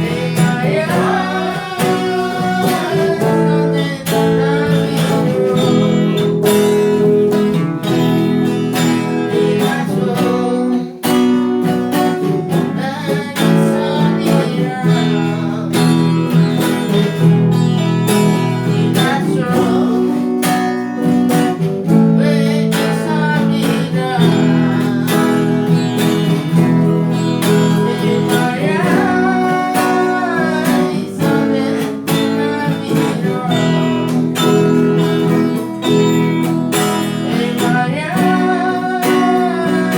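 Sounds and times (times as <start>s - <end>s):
woman singing: 0.0s - 7.6s, 8.8s - 17.0s, 18.3s - 39.9s
acoustic guitar strumming: 0.0s - 39.9s.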